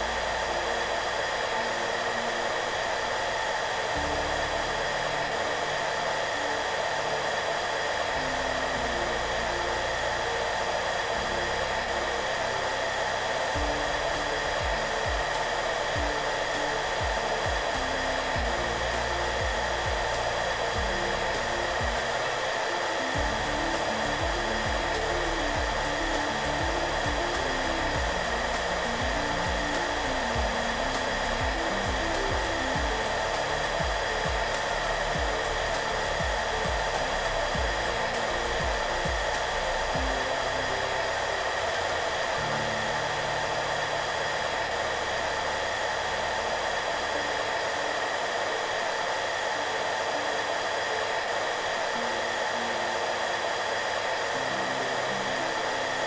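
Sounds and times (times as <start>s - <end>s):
hair dryer running: 0.0s - 56.0s
soft background music: 0.0s - 56.0s.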